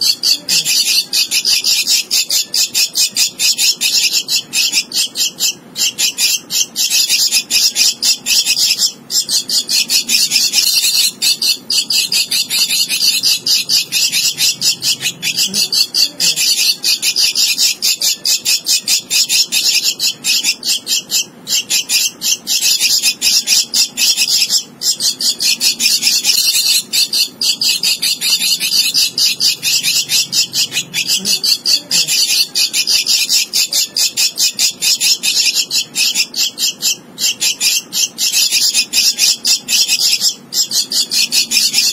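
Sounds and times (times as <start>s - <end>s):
bird chick begging calls: 0.0s - 41.9s.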